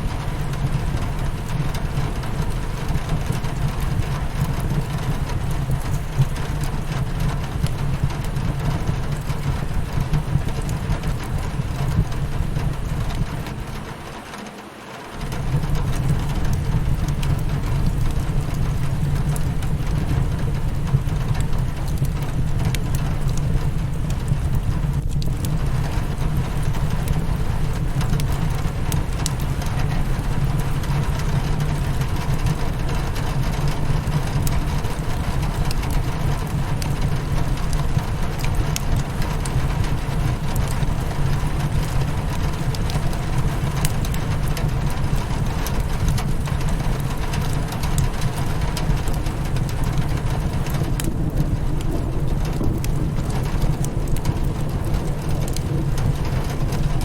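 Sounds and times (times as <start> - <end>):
rain pattering on a window: 0.0 - 57.0
wood fire crackling: 0.0 - 57.0.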